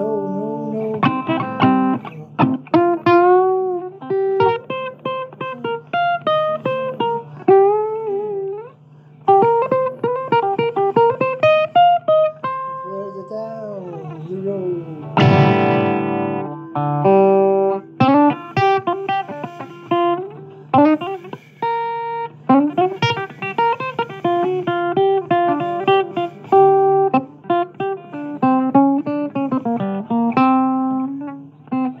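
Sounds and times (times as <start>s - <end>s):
blues guitar playing: 0.0s - 32.0s.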